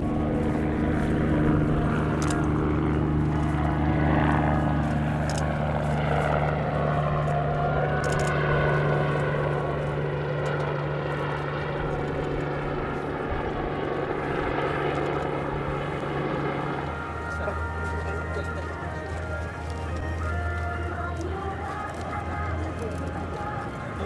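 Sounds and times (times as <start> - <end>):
turboprop engines in flight: 0.0 - 24.0.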